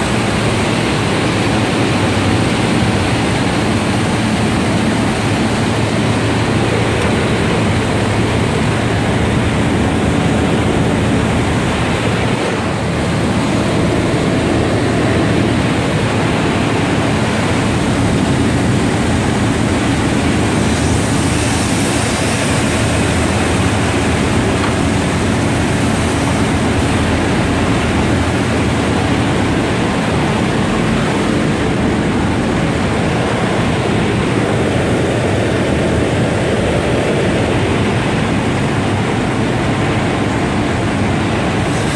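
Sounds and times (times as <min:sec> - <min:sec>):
belt press machinery running: 0:00.0 - 0:41.9.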